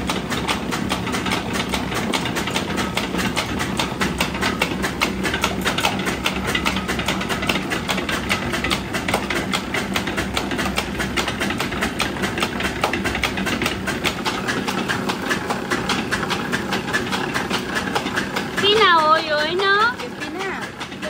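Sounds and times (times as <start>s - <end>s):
oil press clattering: 0.0s - 21.0s
steady machine hum: 0.0s - 21.0s.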